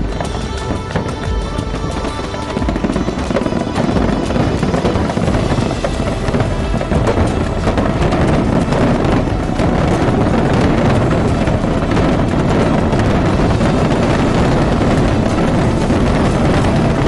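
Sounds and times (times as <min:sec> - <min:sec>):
fireworks barrage rumble: 0:00.0 - 0:17.0
fireworks crackles and bangs: 0:00.0 - 0:17.0.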